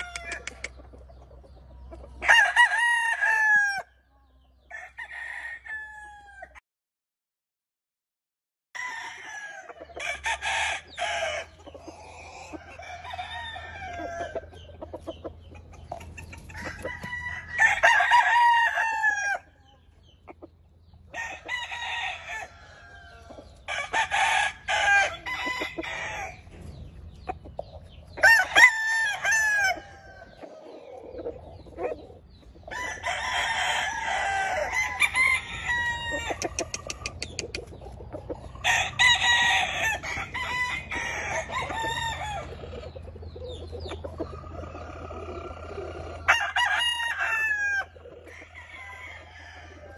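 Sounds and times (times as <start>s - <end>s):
chickens clucking: 0.0s - 6.4s, 9.1s - 49.9s
roosters crowing: 0.0s - 6.6s, 8.8s - 49.9s.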